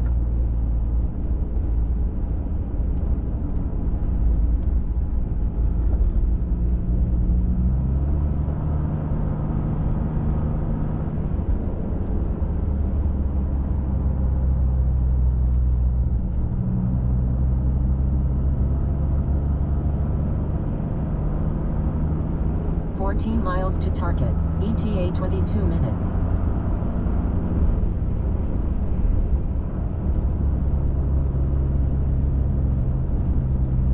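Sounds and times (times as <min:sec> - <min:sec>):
road noise: 0:00.0 - 0:33.9
truck engine drone: 0:00.0 - 0:33.9.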